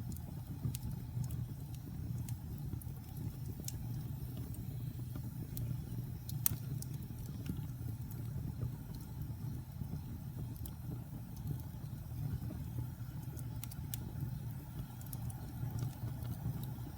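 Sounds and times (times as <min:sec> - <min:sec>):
logs crackling and popping: 0:00.0 - 0:09.5, 0:10.4 - 0:16.9.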